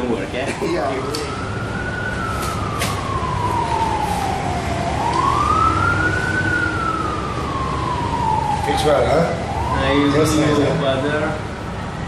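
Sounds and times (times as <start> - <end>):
emergency siren wailing: 0.8 - 12.0.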